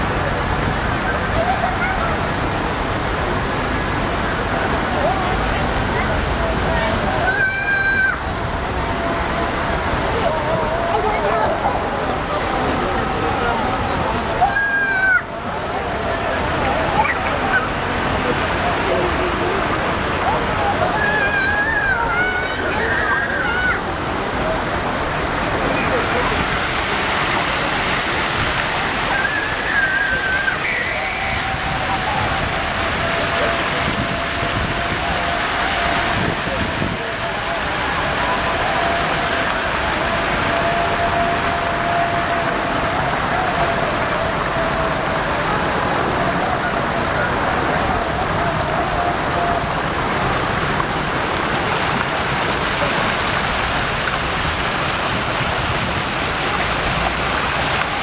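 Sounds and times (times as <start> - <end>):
faint voices: 0.0 - 58.0
fountain water splashing: 0.0 - 58.0.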